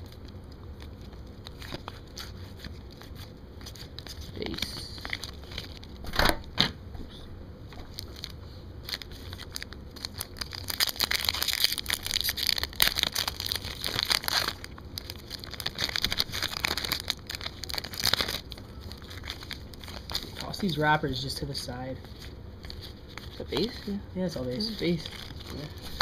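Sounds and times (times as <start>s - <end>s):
foil wrappers tearing and crinkling: 0.0s - 6.2s, 7.8s - 23.9s, 24.5s - 26.0s.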